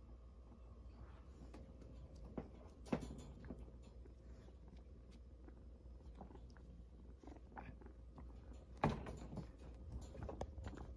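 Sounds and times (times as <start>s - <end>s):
kitten paws tapping and scuffling: 1.1s - 10.9s.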